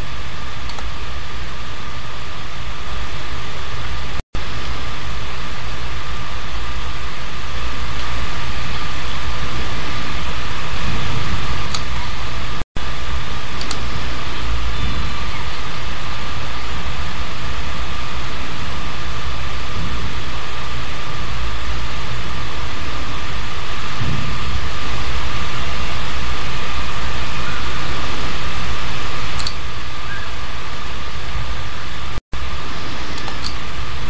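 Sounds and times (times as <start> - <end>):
static hiss: 0.0 - 34.0.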